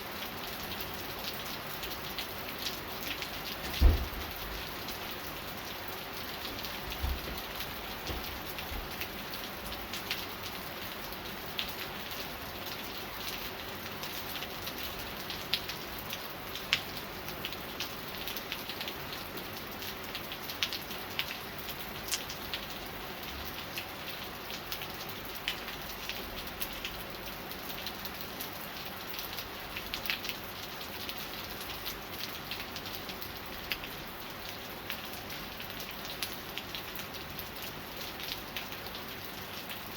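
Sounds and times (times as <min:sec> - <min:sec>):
steady rain hiss: 0:00.0 - 0:39.9
raindrops ticking: 0:00.5 - 0:39.9.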